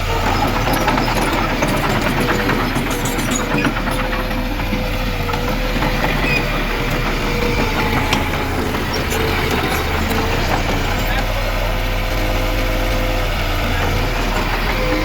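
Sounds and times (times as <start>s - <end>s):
bulldozer diesel engine running: 0.0s - 15.0s
steel tracks clicking: 0.0s - 15.0s.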